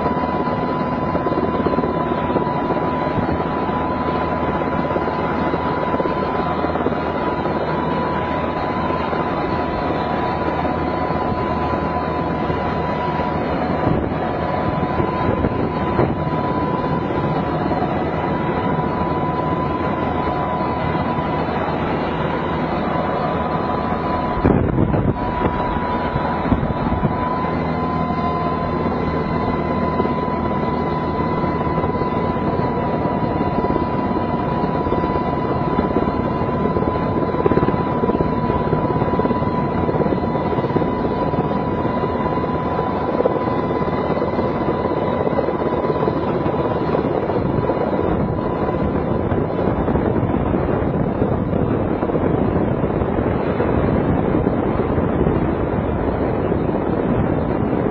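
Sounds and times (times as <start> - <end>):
helicopter rotor and engine noise: 0.0 - 57.9
high turbine whine: 0.0 - 57.9
wind on microphone: 0.0 - 57.9.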